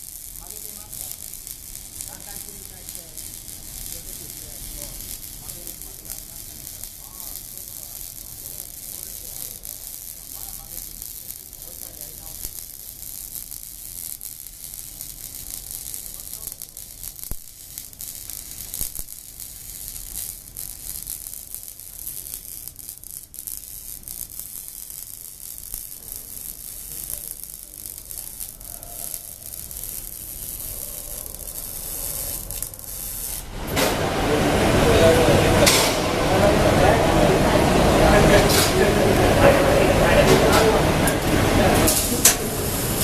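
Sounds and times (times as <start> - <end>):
welding arc crackling sizzle: 0.0 - 43.0.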